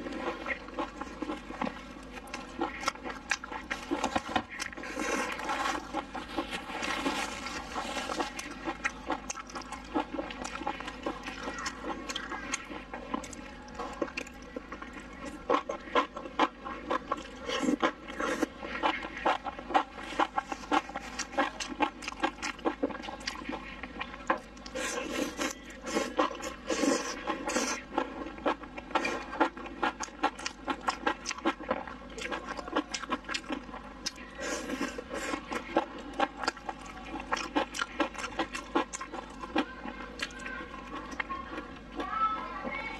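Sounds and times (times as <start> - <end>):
wet chewing and lip-smacking: 0.0 - 42.5.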